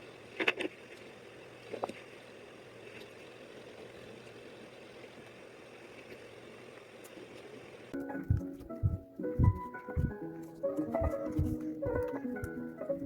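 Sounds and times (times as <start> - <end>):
low ambient background noise: 0.0 - 13.0.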